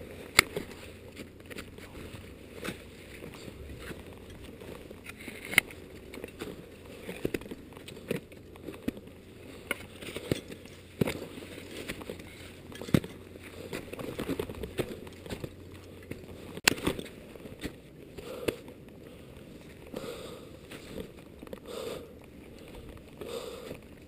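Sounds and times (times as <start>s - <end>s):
scraping on rock: 0.0s - 24.0s.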